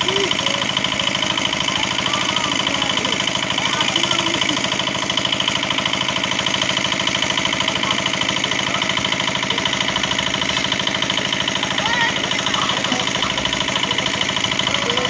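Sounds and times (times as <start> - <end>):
small engine knocking: 0.0 - 15.0.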